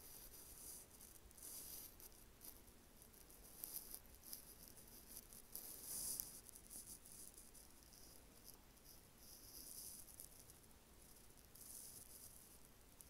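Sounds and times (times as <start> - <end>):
soft high-pitched hiss: 0.0 - 13.0.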